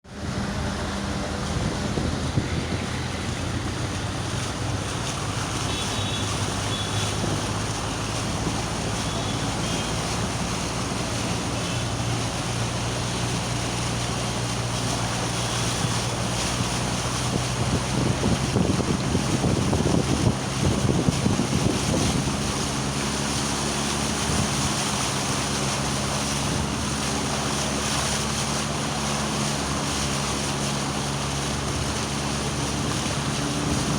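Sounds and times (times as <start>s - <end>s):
engine humming: 0.0s - 33.9s
water rushing: 0.0s - 33.9s
wind noise on microphone: 0.1s - 33.9s.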